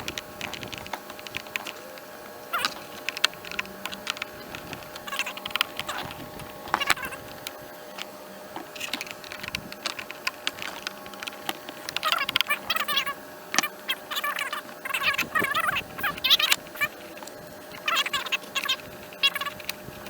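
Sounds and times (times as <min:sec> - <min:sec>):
plastic and metal parts clicking: 0:00.0 - 0:19.9.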